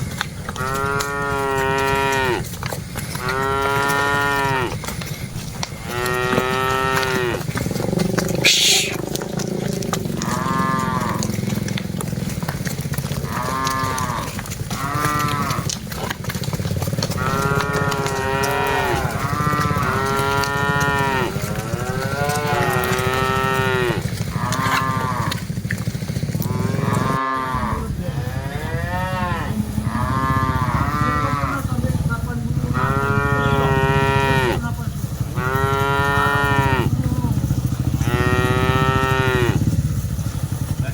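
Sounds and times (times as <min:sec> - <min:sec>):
cattle mooing: 0:00.4 - 0:25.6, 0:26.2 - 0:39.8.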